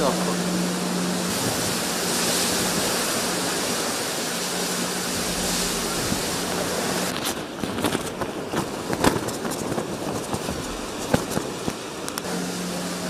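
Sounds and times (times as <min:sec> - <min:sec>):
heavy rain and wind: 0:00.0 - 0:13.0.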